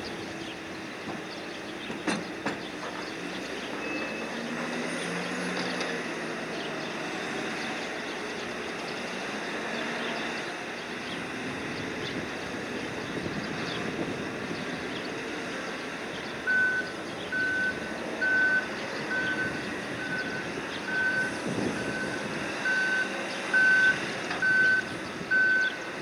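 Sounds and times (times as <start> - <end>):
cargo crane machinery running: 0.0 - 26.0.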